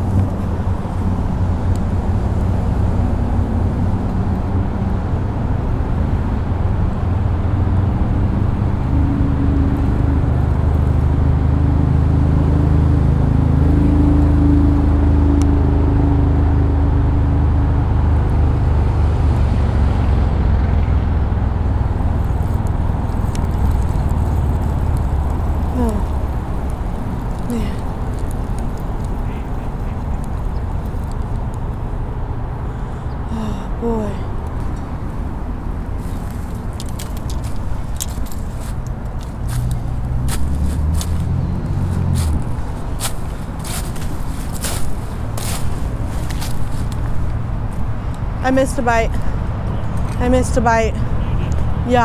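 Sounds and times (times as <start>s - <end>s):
heavy engine drone: 0.0s - 52.0s
road traffic rumble: 0.0s - 52.0s.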